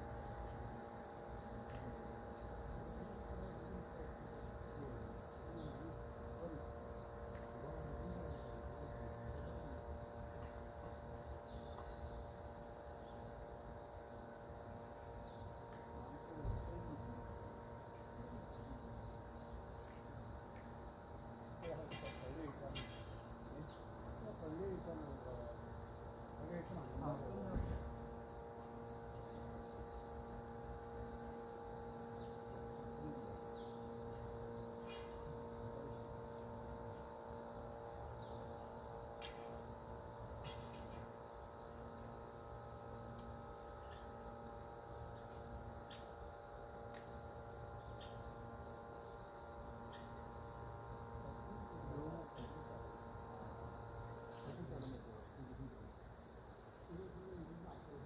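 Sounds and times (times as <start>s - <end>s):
insects trilling: 0.0s - 58.0s
steady low hum: 0.0s - 58.0s.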